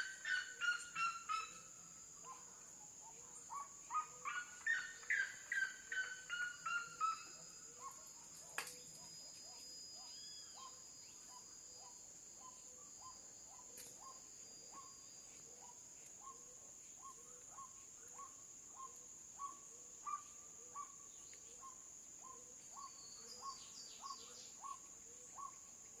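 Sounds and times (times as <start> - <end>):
bird yelping calls: 0.0 - 2.5, 3.1 - 15.0, 16.2 - 25.6.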